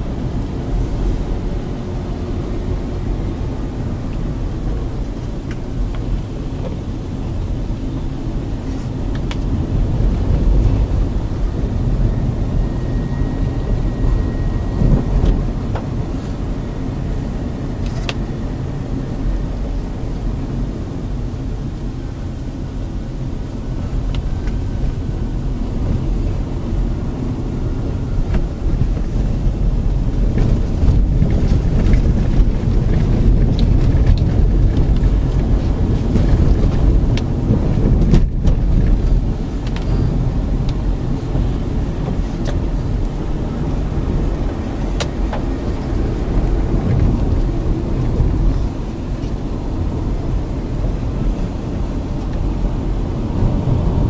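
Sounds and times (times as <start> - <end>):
car interior road noise: 0.0 - 54.0.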